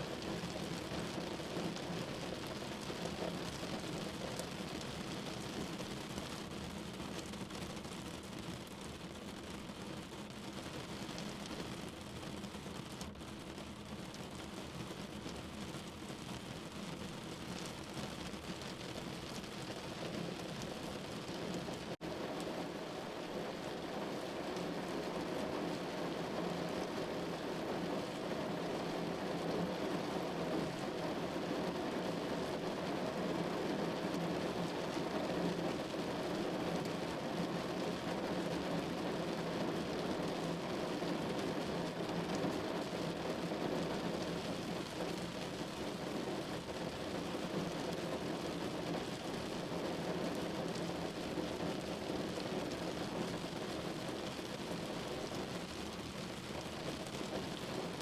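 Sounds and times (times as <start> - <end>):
rain on a window: 0.0 - 58.0.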